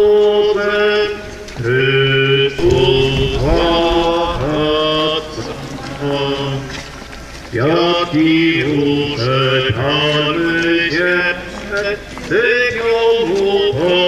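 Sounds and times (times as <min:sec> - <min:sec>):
voices singing religious chant: 0:00.0 - 0:14.0.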